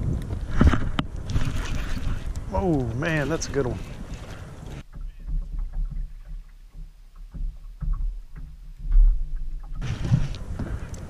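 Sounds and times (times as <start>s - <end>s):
boat handling knocks and rattles: 0.3s - 11.0s.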